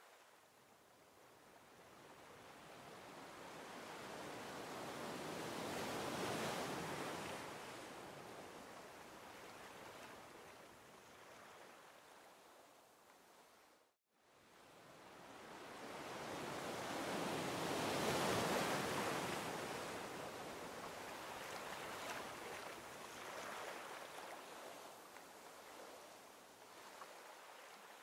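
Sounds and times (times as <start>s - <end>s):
ocean waves breaking on shore: 1.4s - 12.7s, 14.3s - 28.0s.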